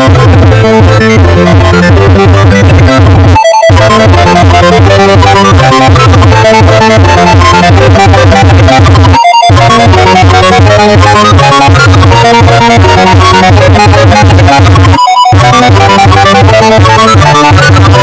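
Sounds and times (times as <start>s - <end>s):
synthesizer alarm music: 0.0s - 18.0s.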